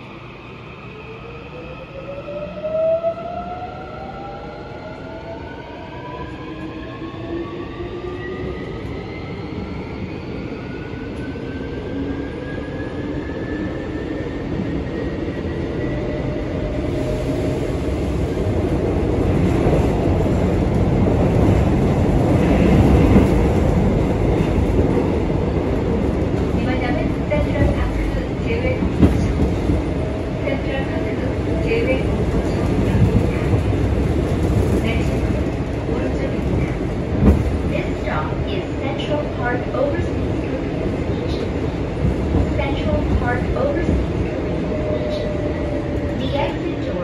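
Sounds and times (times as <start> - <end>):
train wheels rumbling on rail: 6.5 - 47.0.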